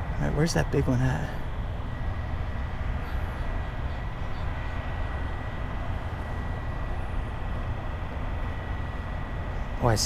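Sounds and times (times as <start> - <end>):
faint high-pitched whine: 0.0 - 10.0
low outdoor rumble: 0.0 - 10.0.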